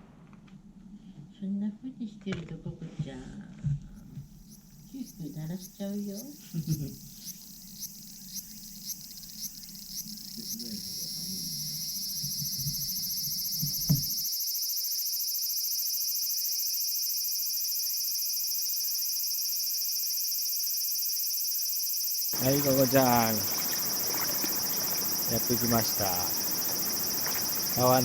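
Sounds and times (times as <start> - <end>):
high-pitched insect chorus: 4.3 - 28.0.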